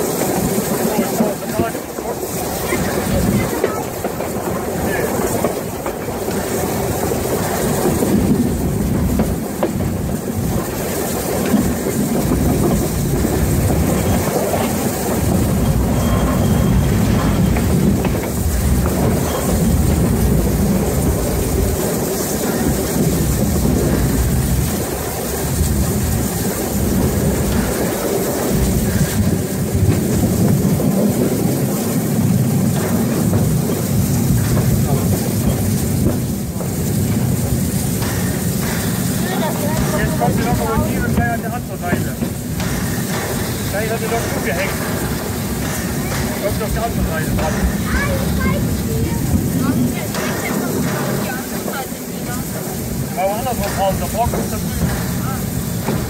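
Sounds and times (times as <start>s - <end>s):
steam locomotive wheels rumbling: 0.0s - 56.0s.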